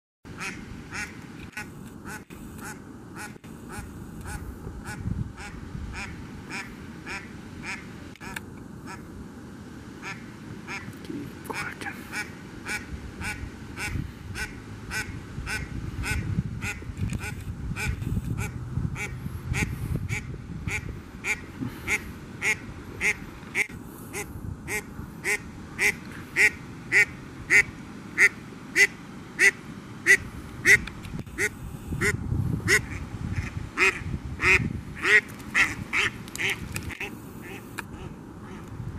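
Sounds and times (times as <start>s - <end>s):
duck quacking: 0.4s - 9.0s, 10.0s - 38.7s.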